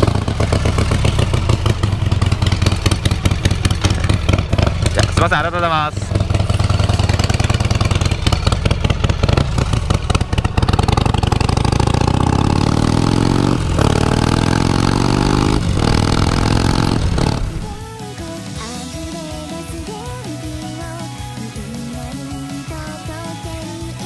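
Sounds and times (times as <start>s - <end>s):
motorcycle accelerating: 0.0s - 24.0s
rock music: 0.0s - 24.0s.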